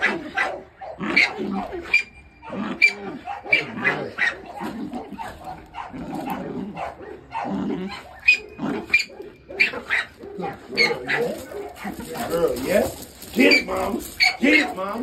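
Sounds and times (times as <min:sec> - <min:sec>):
dog growling: 0:00.0 - 0:15.0.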